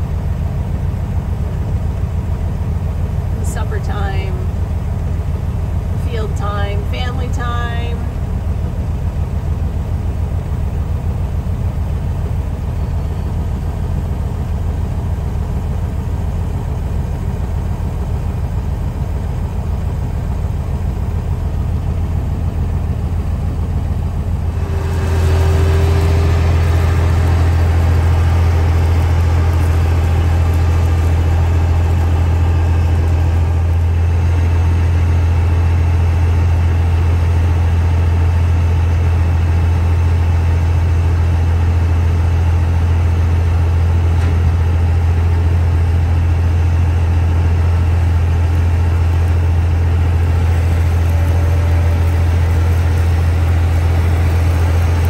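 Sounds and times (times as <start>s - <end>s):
tractor engine drone from cab: 0.0s - 55.0s.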